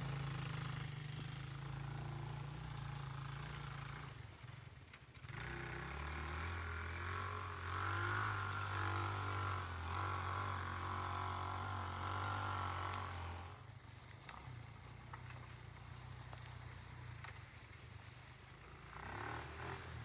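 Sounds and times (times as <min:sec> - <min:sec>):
atv engine pulling under load: 0:00.0 - 0:20.0.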